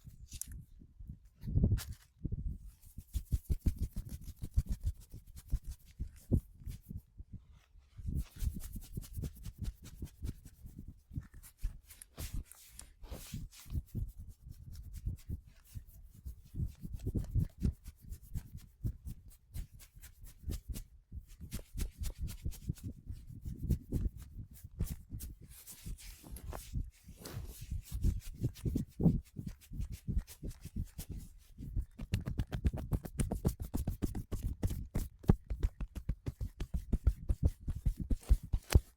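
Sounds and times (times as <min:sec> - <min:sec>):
hands slapping and rubbing skin: 0:02.8 - 0:07.0, 0:08.2 - 0:38.9.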